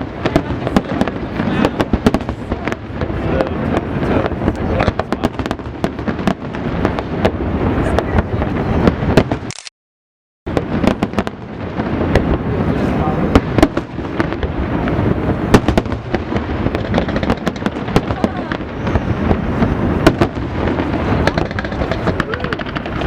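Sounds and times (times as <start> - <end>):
fireworks bangs and crackles: 0.0 - 9.5, 10.5 - 23.0.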